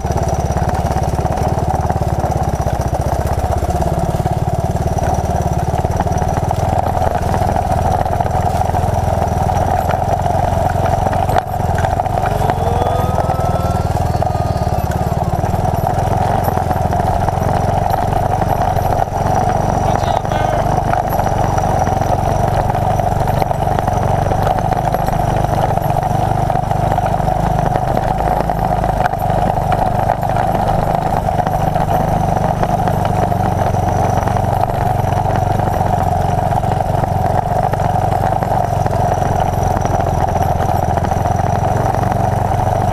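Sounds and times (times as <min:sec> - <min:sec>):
motorcycle engine running steadily: 0:00.0 - 0:42.9.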